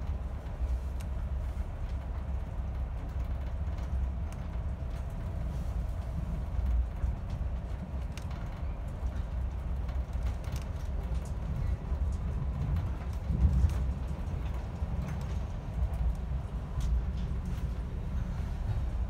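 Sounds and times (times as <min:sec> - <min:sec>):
train carriage rumble on rails: 0:00.0 - 0:19.0.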